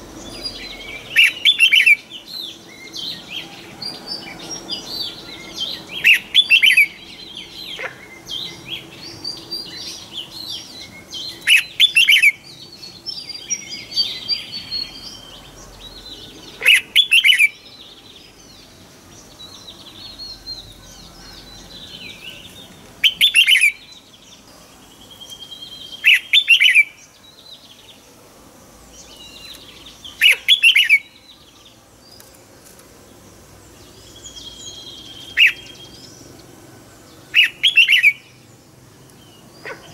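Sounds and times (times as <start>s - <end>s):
bird singing warbled phrases: 0.0s - 39.9s
faint bird chirping and trills: 0.0s - 39.9s.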